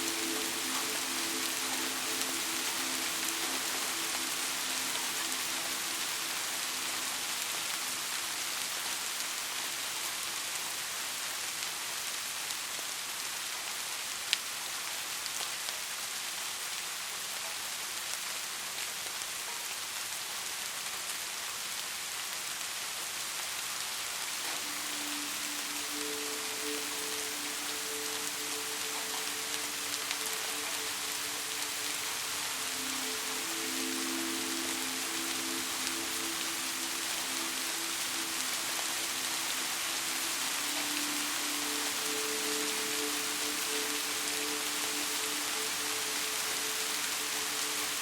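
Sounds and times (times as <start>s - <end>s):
rain on a roof: 0.0s - 48.0s.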